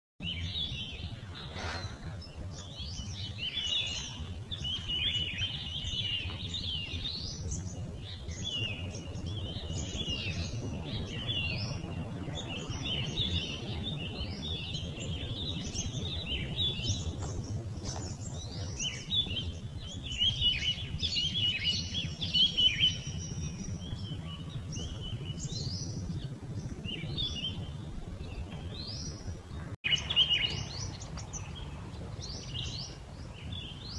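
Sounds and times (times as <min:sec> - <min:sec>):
birds chirping and singing: 0:00.2 - 0:33.9
low rumble: 0:00.2 - 0:33.9.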